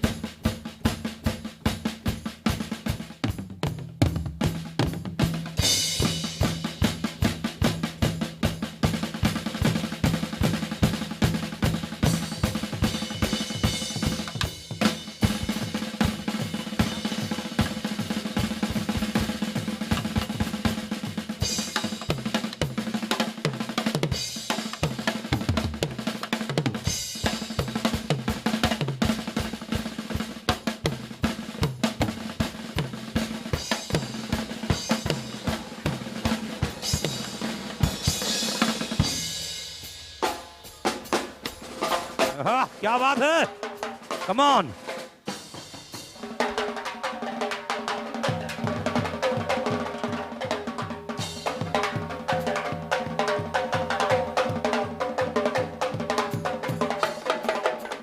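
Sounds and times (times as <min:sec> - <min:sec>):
fast hard drumming: 0:00.0 - 0:58.0.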